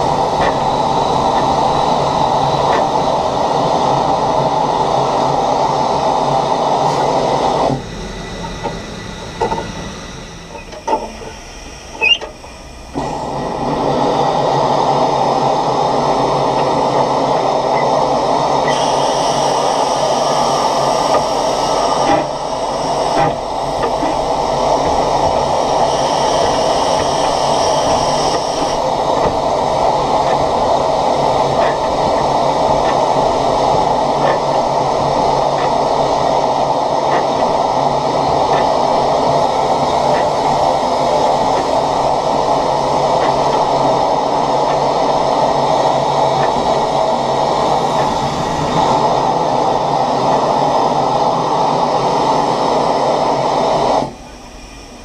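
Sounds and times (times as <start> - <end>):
steam locomotive running: 0.0 - 55.0.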